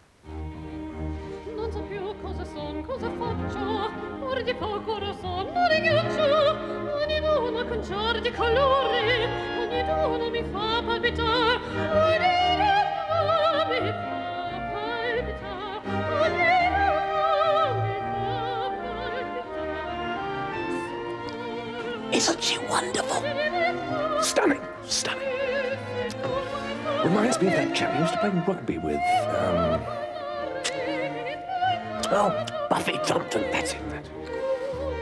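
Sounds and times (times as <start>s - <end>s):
orchestra playing: 0.3s - 35.0s
woman opera singing: 1.5s - 35.0s.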